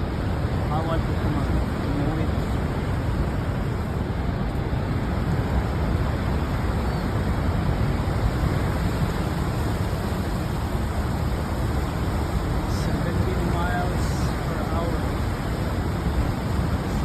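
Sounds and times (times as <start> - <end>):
waterfall rushing: 0.0 - 3.8, 4.9 - 17.0.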